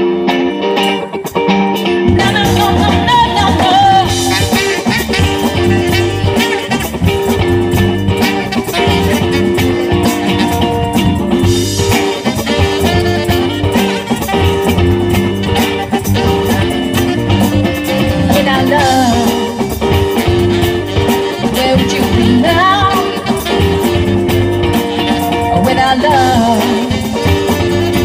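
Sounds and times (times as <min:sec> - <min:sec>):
bass guitar: 0:00.0 - 0:28.0
drum kit: 0:00.0 - 0:28.0
electric guitar: 0:00.0 - 0:28.0.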